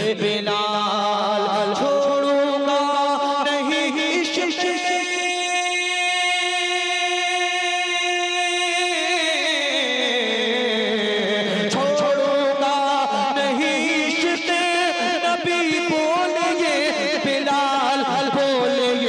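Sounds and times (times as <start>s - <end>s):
person singing with vibrato: 0.0s - 19.0s.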